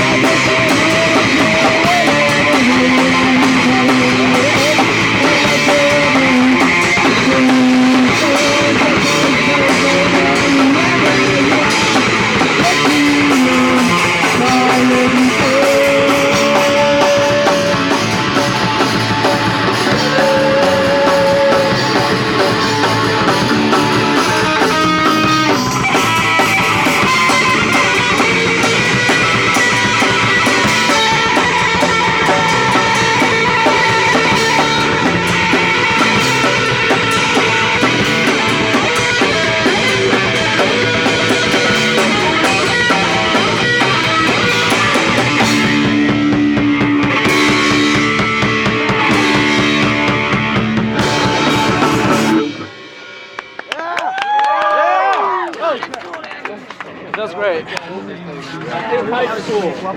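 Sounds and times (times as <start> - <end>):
electric guitars: 0.0 - 54.4
drum kit: 0.0 - 55.0.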